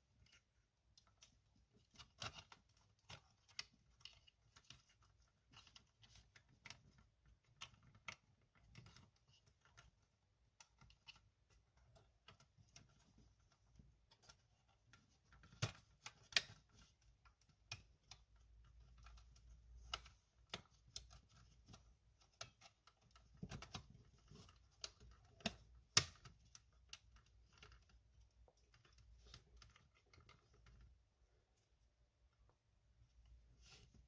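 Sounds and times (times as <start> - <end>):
plastic parts and tools clicking: 0.1 - 31.0.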